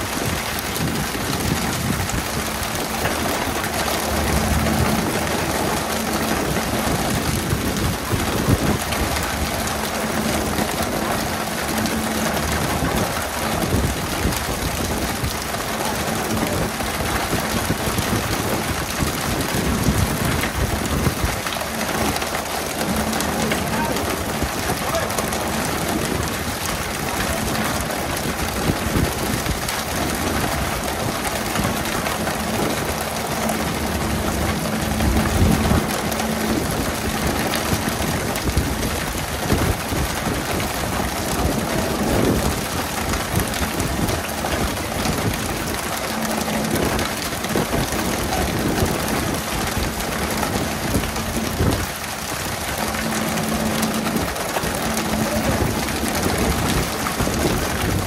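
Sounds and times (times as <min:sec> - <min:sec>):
low engine hum: 0:00.0 - 0:58.0
water sprayers hissing on sea: 0:00.0 - 0:58.0.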